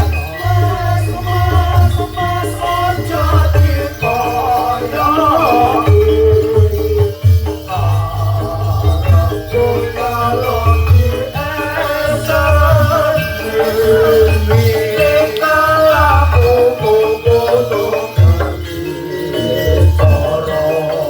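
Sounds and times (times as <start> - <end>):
ringing metal percussion: 0.0 - 21.0
wavering melody line: 0.0 - 21.0.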